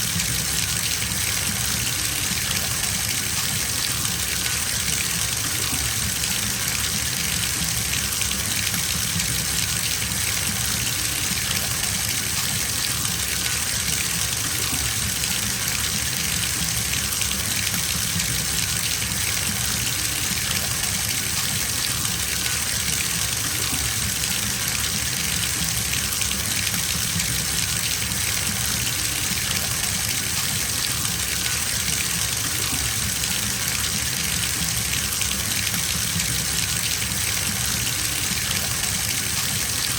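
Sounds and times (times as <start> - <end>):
tap water pouring into bathtub: 0.0 - 39.9.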